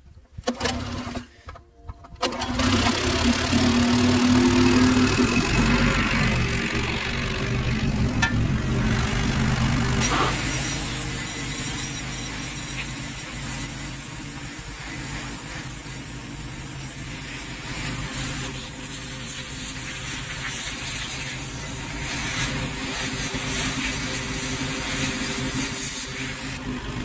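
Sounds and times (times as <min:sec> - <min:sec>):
pressure washer motor droning: 0:02.2 - 0:27.0
water jet hissing: 0:03.1 - 0:26.7.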